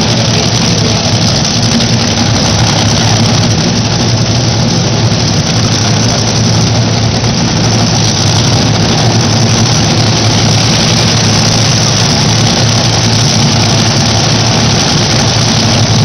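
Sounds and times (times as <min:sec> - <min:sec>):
dragster engines idling: 0:00.0 - 0:16.0.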